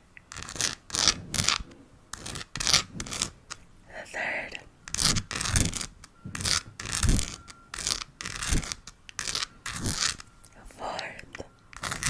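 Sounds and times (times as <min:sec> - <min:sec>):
scratching and crinkling: 0:00.3 - 0:03.7, 0:04.9 - 0:12.0.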